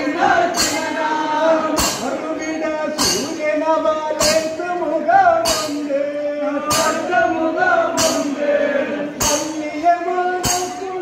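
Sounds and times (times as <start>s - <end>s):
sharp percussive beat: 0.0s - 11.0s
voices singing folk song: 0.0s - 11.0s.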